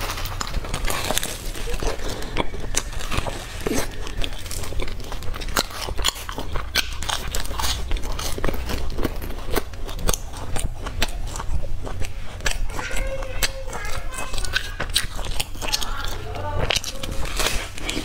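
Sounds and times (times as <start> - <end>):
chewing crusty bread: 0.0 - 18.0.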